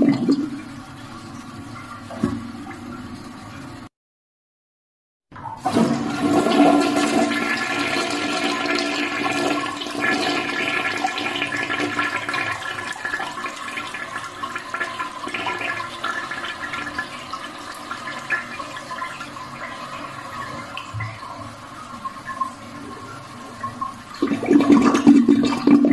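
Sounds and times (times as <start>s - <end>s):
toilet flushing: 0.0s - 3.9s, 5.4s - 25.9s.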